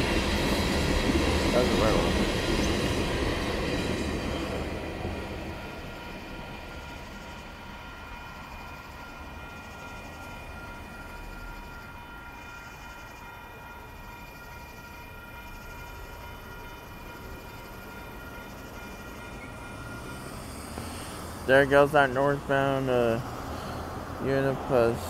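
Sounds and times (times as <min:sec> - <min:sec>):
crossing warning bell ringing: 0:00.0 - 0:25.0
freight train cars rolling past: 0:00.0 - 0:25.0.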